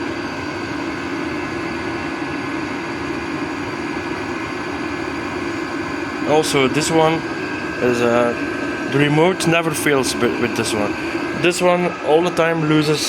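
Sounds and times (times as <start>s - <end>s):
heater blower fans whirring: 0.0s - 13.0s
thin steady whine: 0.0s - 13.0s.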